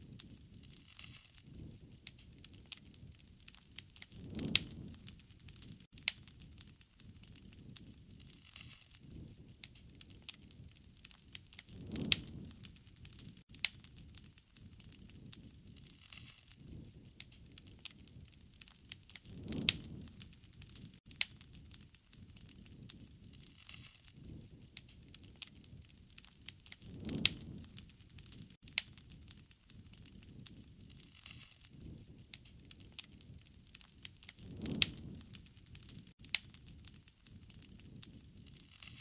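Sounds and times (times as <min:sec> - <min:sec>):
rush of flames: 0:00.0 - 0:39.0
wood fire crackling and popping: 0:00.0 - 0:39.0.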